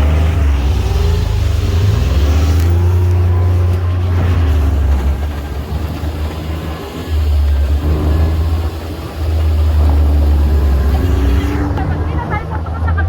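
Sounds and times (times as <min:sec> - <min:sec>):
utv engine revving: 0:00.0 - 0:13.0.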